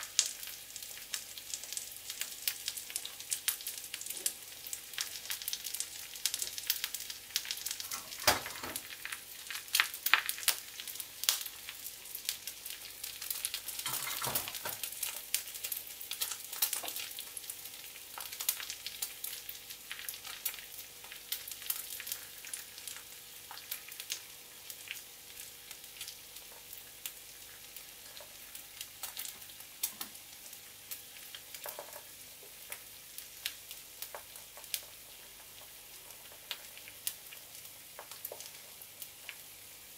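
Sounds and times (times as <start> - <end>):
egg sizzling in oil: 0.0 - 39.9
oil crackling and popping: 0.0 - 39.9.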